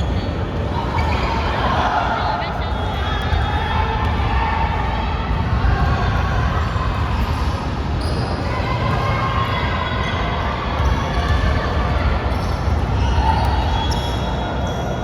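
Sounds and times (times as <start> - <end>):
players' voices: 0.0 - 14.9.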